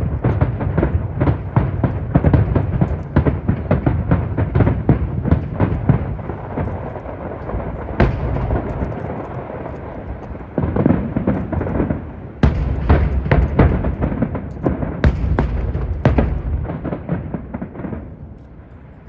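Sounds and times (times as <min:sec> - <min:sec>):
fireworks exploding: 0:00.0 - 0:19.0
wind rumble on microphone: 0:00.0 - 0:19.0.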